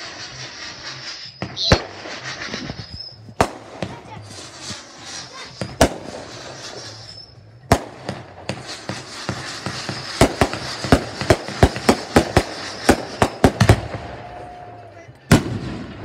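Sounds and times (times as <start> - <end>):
crackling hiss: 0.0 - 16.0
fireworks bangs: 0.0 - 16.0.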